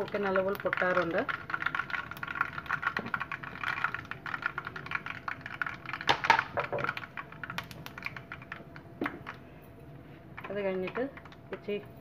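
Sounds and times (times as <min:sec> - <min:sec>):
spices popping in hot oil: 0:00.0 - 0:09.6, 0:10.3 - 0:12.0.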